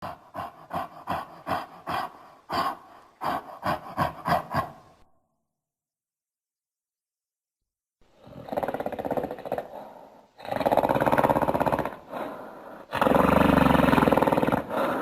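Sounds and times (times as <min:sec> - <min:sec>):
gorilla creature breathy pulses: 0:00.0 - 0:05.2, 0:08.1 - 0:15.0.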